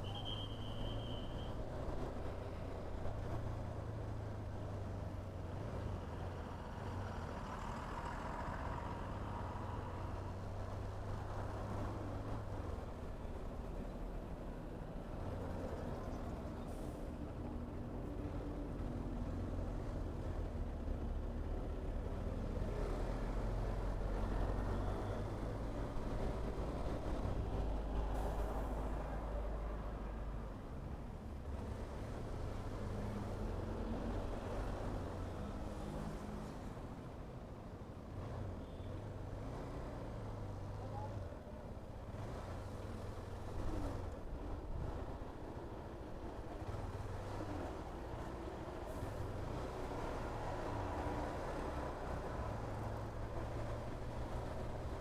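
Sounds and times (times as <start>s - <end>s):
road noise: 0.0s - 55.0s
traffic engines droning: 0.0s - 55.0s.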